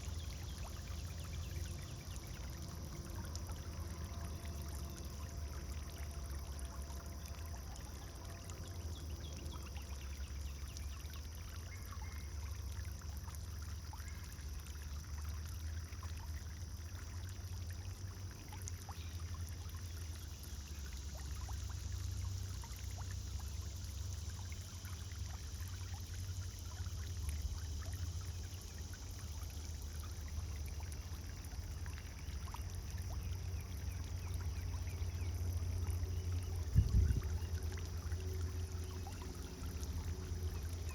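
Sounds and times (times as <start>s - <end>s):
fountain splashing and trickling: 0.0s - 40.9s.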